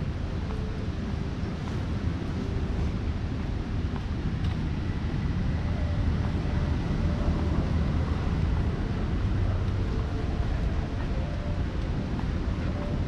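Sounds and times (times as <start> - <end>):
ocean surf: 0.0 - 13.0
wind buffeting microphone: 0.0 - 13.0.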